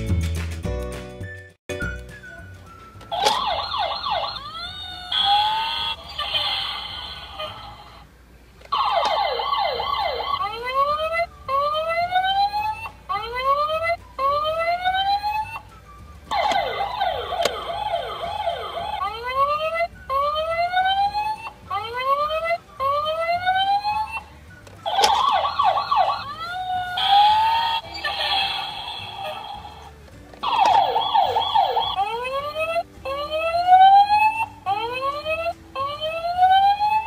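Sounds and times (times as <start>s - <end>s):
toy fire truck electronic siren: 3.1s - 8.0s, 8.7s - 37.0s.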